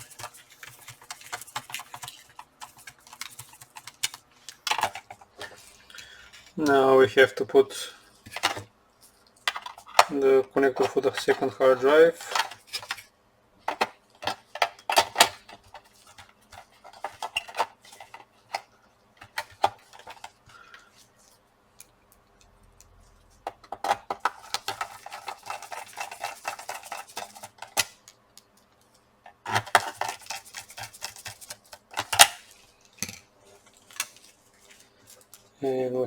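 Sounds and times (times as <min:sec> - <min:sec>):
small parts clicking and rattling: 0:00.0 - 0:06.7, 0:08.2 - 0:13.1, 0:13.7 - 0:35.5.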